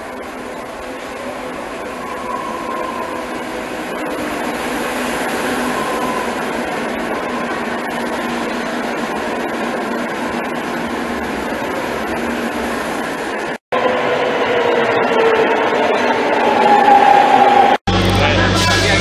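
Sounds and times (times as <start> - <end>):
metro train rumbling past: 0.0 - 19.0.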